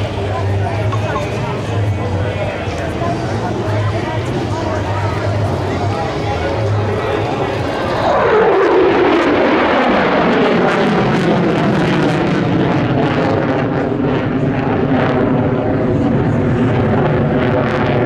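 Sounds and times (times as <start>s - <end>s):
jet engine rumbling: 0.0s - 18.0s.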